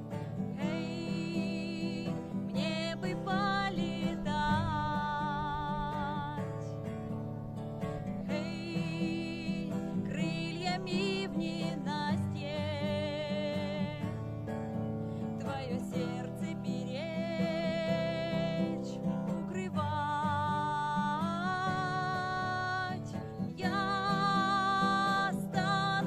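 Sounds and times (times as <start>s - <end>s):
person singing with vibrato: 0.0s - 6.7s, 8.1s - 14.2s, 15.2s - 26.0s
acoustic guitar strumming: 0.0s - 26.0s.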